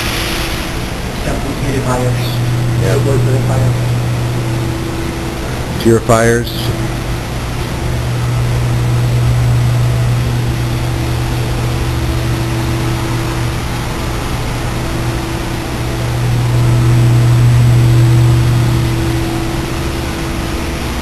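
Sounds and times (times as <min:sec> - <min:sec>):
industrial machinery humming: 0:00.0 - 0:21.0.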